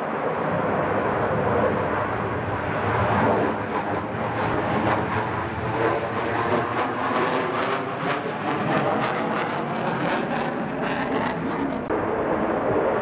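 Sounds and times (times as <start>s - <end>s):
jet rumble with crackle: 0.0s - 13.0s.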